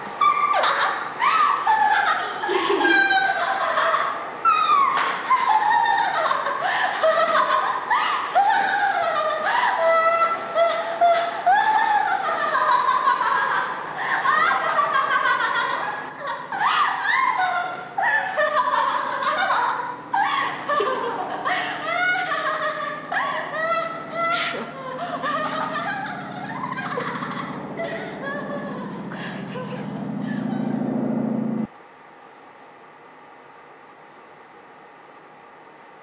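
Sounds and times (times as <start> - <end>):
woman laughing and giggling: 0.6 - 31.7.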